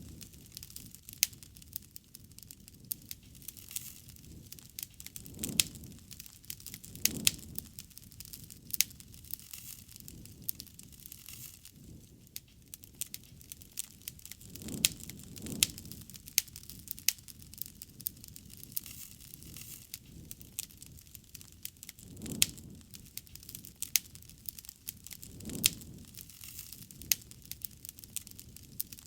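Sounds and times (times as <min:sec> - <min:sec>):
campfire crackles and pops: 0:00.0 - 0:29.0
low rumble of flames: 0:00.0 - 0:29.0.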